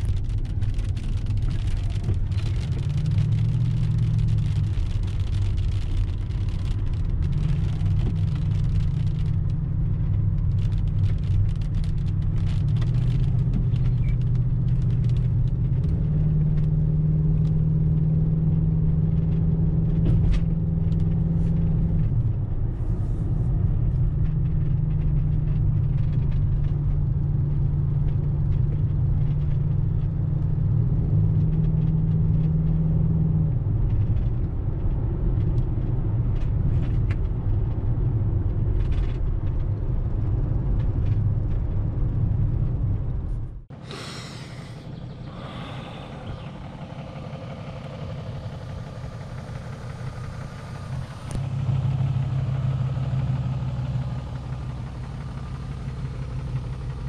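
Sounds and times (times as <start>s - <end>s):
engine running with low drone: 0.0s - 57.0s.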